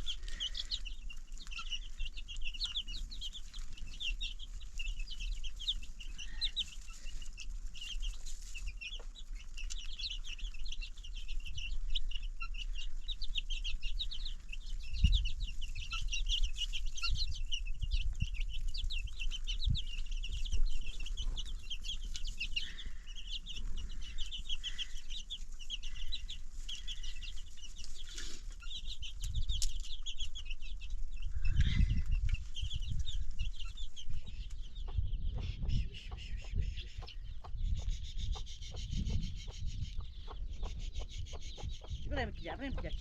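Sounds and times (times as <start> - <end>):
chickens clucking: 0.0 - 43.0
chicks chirping rapidly: 0.0 - 43.0.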